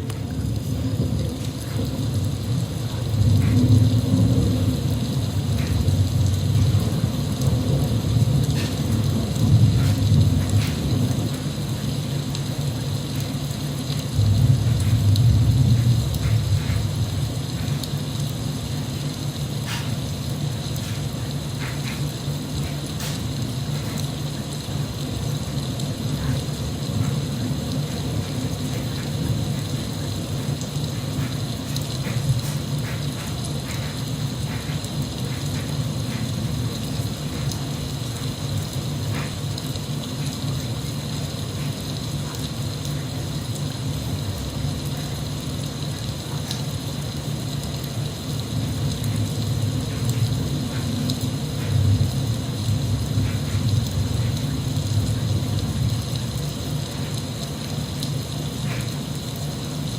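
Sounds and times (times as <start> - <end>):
raindrop ticks: 0.0 - 59.9
steady rain hiss: 0.0 - 59.9.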